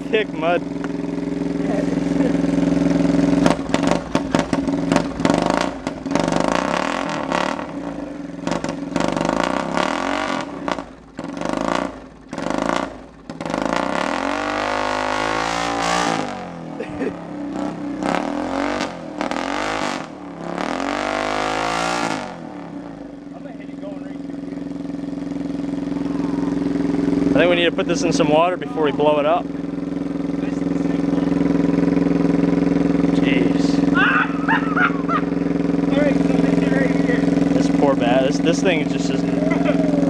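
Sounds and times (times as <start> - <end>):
quad engine revving in mud: 0.0 - 40.0.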